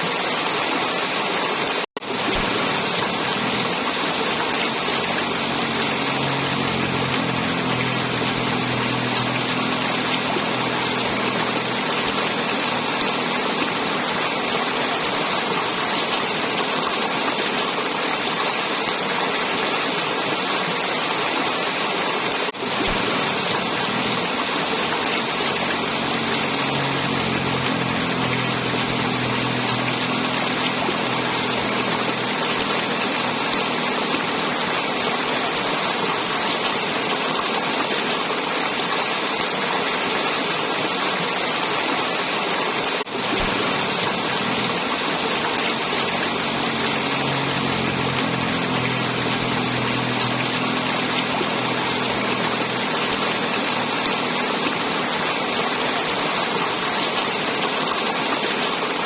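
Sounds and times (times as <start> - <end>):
river water gurgling: 0.0 - 59.0.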